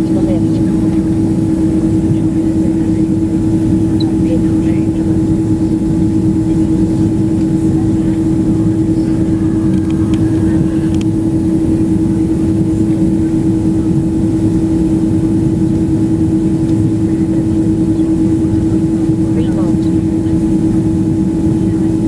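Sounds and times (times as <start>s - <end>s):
airliner engine drone: 0.0s - 22.0s
constant hum: 0.0s - 22.0s.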